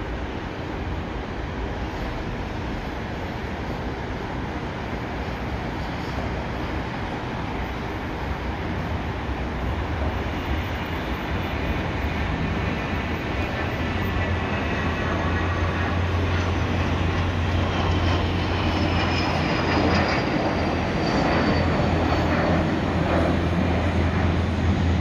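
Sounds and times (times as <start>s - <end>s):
jet engine noise: 0.0s - 25.0s.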